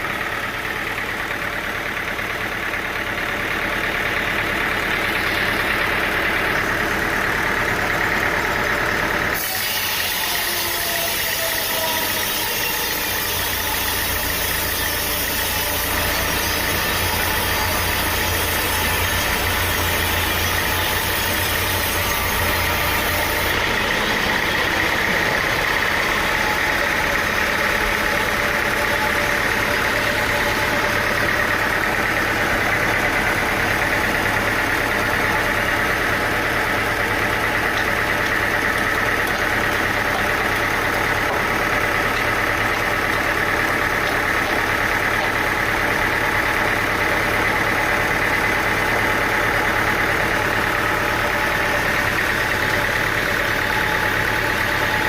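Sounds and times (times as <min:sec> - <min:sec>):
engine-driven machinery running: 0:00.0 - 0:55.0.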